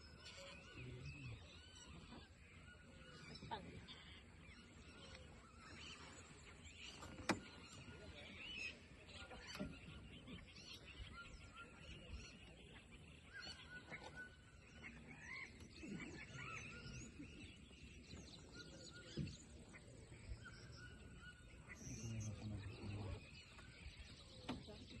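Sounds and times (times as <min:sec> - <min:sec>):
birds chirping and whistling: 0:00.0 - 0:25.0.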